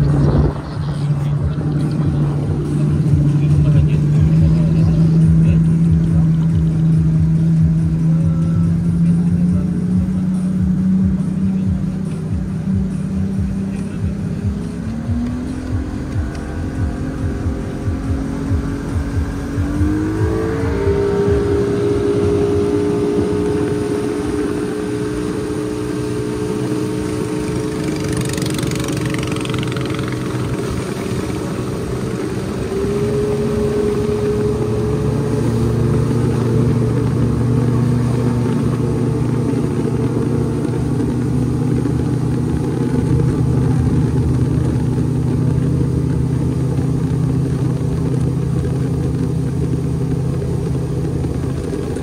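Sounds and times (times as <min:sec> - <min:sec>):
speedboat engine running: 0:00.0 - 0:52.0
water rushing along hull: 0:00.0 - 0:52.0.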